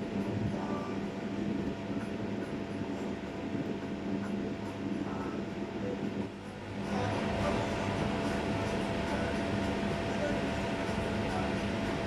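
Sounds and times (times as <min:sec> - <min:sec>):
steady droning hum: 0:00.0 - 0:12.0.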